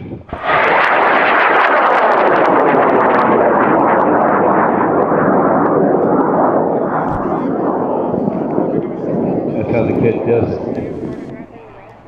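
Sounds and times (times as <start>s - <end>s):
rocket motor roaring: 0.0s - 12.0s.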